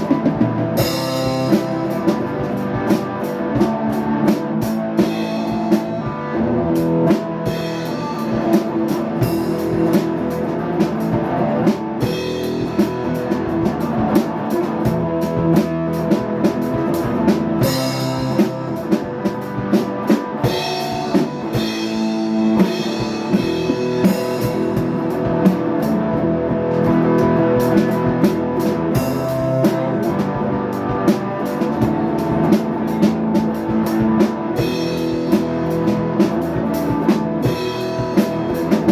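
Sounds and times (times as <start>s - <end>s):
rock music with drums and guitar: 0.0s - 38.9s.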